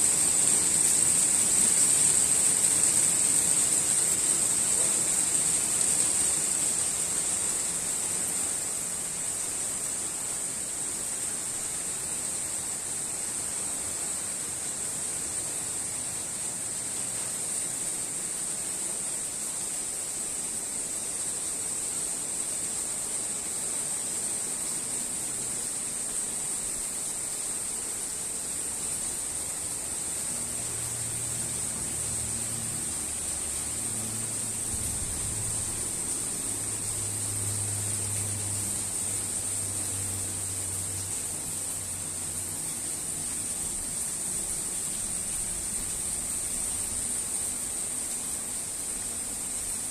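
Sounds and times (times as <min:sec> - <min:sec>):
rain shower hissing: 0:00.0 - 0:49.9.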